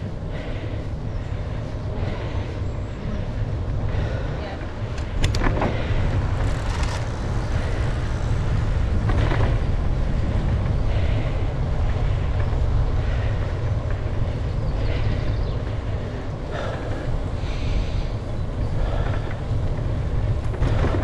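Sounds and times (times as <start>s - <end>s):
bicycle road noise: 0.0s - 21.0s
wind buffeting microphone: 0.0s - 21.0s.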